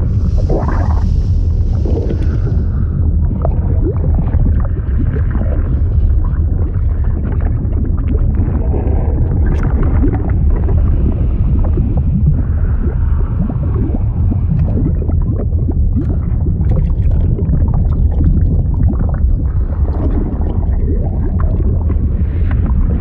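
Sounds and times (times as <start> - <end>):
bubbling pops and gurgles: 0.0 - 23.0
deep rumble of moving liquid: 0.0 - 23.0.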